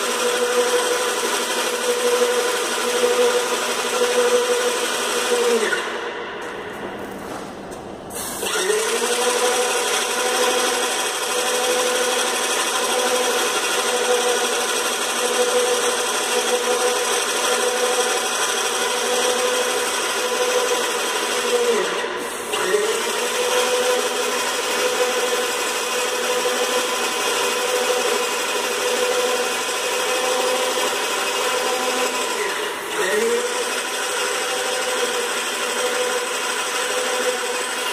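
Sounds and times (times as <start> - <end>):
paint sprayer motor whining: 0.0 - 6.5, 8.2 - 37.9.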